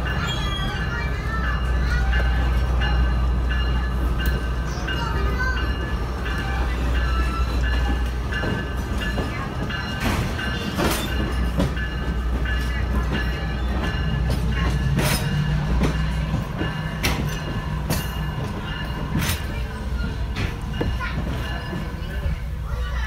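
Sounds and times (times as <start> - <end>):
train rumbling along track: 0.0 - 23.0.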